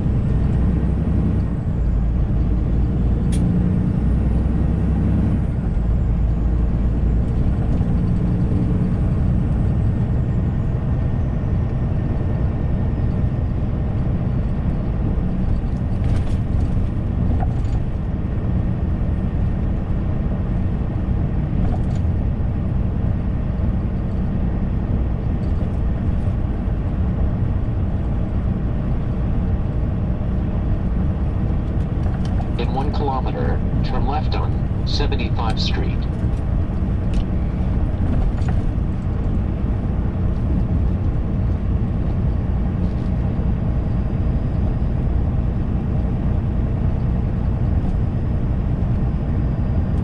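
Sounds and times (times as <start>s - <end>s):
truck engine drone and road rumble: 0.0s - 50.0s.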